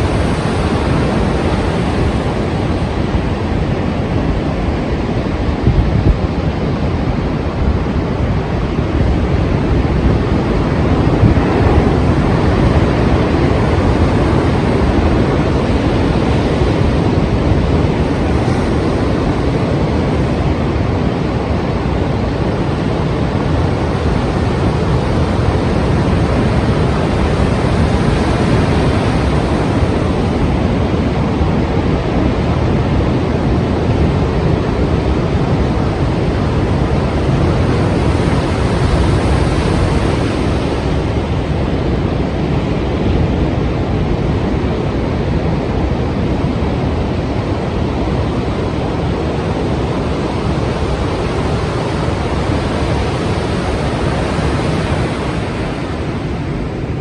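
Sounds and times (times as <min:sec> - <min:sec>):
heavy sea surf washing: 0:00.0 - 0:57.0.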